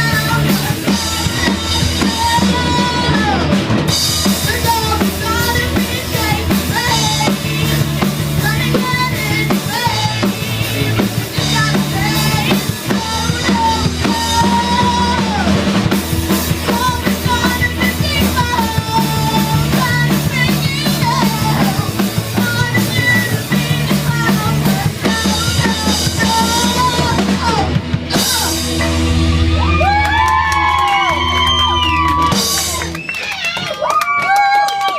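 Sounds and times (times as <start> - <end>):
person singing: 0.0 - 28.9
drum kit beat: 0.0 - 33.6
bass guitar: 0.0 - 33.9
rock band playing: 0.0 - 34.4.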